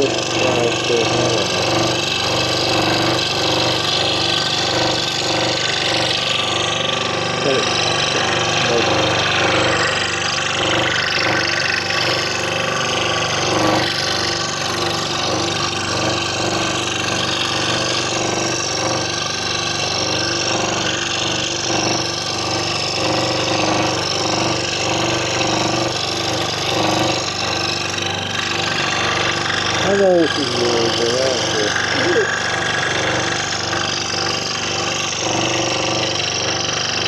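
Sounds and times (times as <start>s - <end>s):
scroll saw cutting wood: 0.0s - 37.0s.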